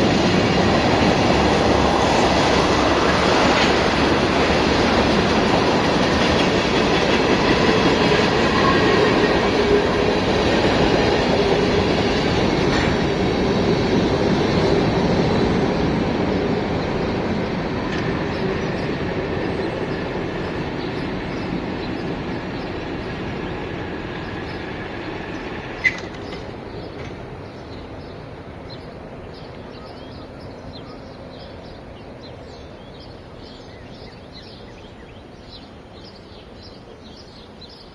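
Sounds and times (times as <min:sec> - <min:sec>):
freight train rumbling past: 0:00.0 - 0:37.9.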